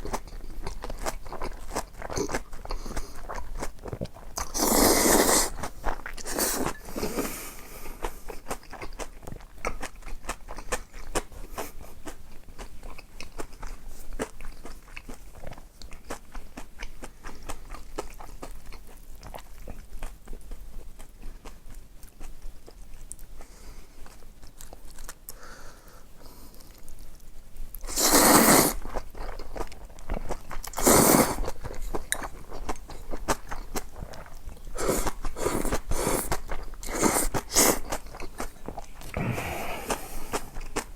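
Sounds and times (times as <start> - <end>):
crunching and chewing fried food: 0.0 - 40.9.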